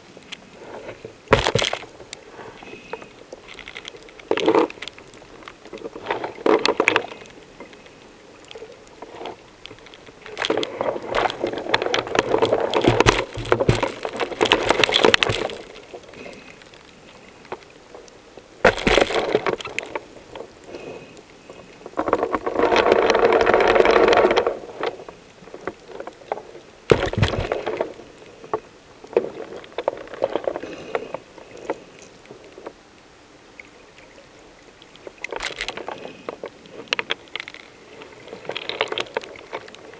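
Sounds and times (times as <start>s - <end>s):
underwater bubbling and rushing water: 0.0s - 39.9s.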